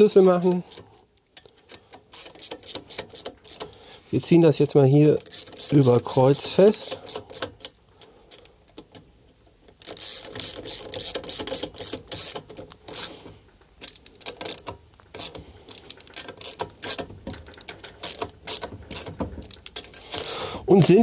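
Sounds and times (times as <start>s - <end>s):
hand ratchet clicking: 0.1s - 3.8s, 5.1s - 9.0s, 9.7s - 13.2s, 13.8s - 20.5s.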